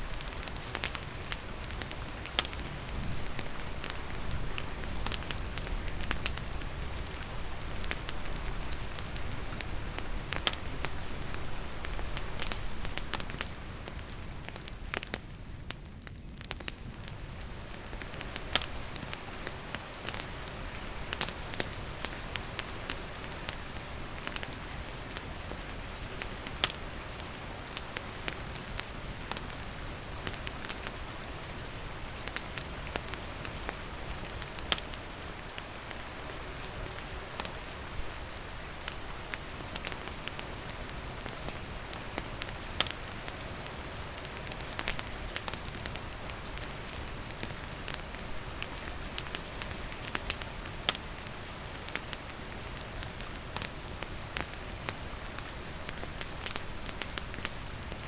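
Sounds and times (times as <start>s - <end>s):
campfire crackling and popping: 0.0s - 58.0s
rain hissing on leaves and roof: 0.0s - 58.0s.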